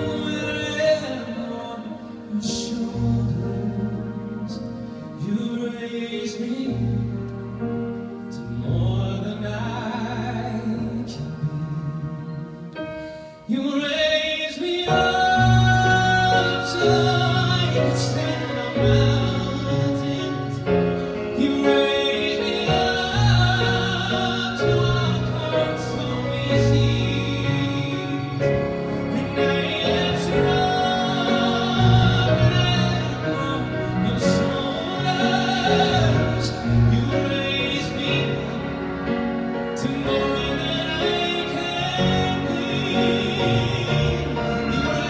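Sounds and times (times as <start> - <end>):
man singing: 0.0 - 7.6, 8.2 - 45.0
piano and string accompaniment: 0.0 - 45.0.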